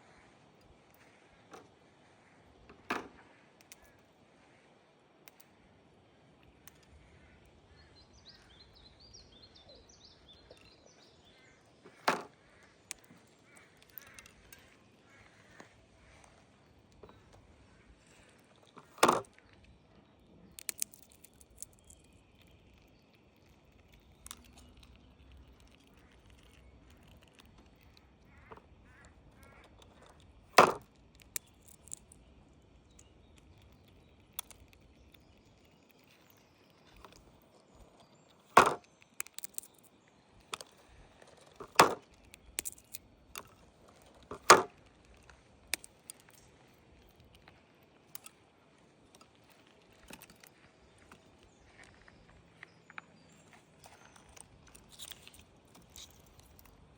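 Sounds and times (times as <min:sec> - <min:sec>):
faint clicks and ticks: 0:10.2 - 0:19.8, 0:20.5 - 0:56.9.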